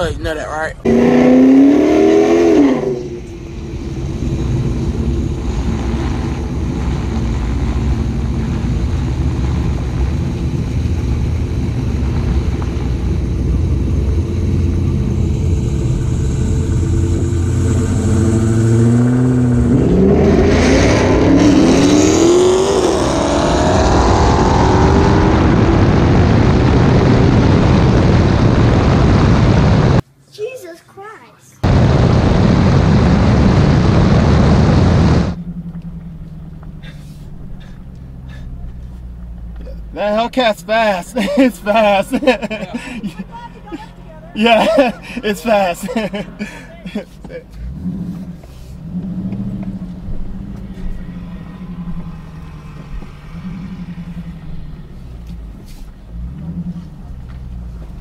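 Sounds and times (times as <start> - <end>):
car engine revving and accelerating: 0.8 - 30.0, 32.5 - 58.0.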